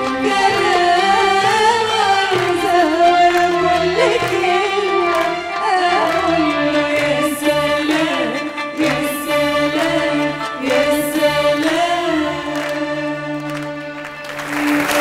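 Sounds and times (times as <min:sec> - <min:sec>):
woman singing into microphone: 0:00.0 - 0:13.3
instrumental accompaniment: 0:00.0 - 0:15.0.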